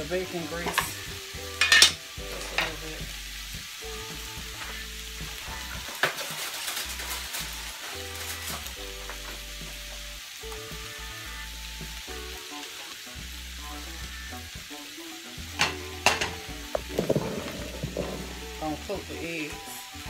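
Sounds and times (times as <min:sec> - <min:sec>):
food sizzling in a skillet: 0:00.0 - 0:20.0.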